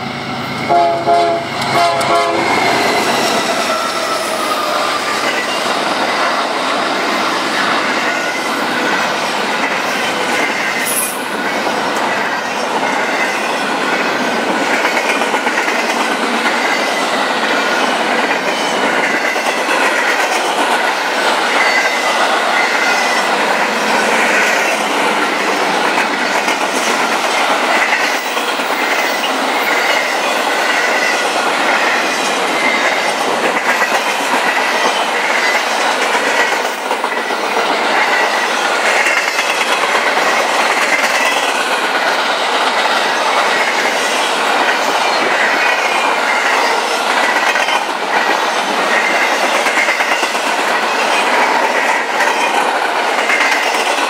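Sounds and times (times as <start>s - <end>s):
train wheels clattering: 0.4s - 54.0s.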